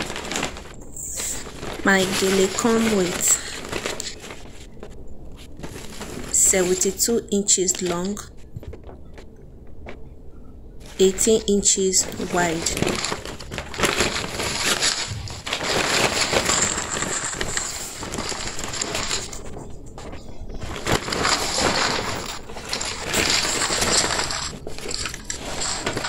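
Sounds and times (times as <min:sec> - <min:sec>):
stiff fabric rustling and crinkling: 0:00.0 - 0:26.0.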